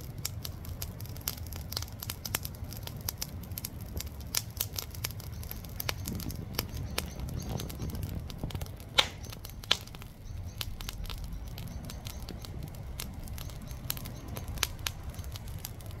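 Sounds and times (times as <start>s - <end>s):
charcoal fire crackling and popping: 0.0s - 16.0s
low fire roar: 0.0s - 16.0s.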